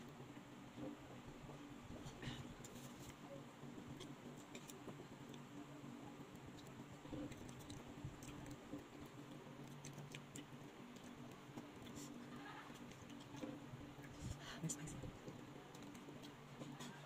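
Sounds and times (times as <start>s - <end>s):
steady low hum: 0.0s - 17.0s
quiet chewing: 0.7s - 17.0s.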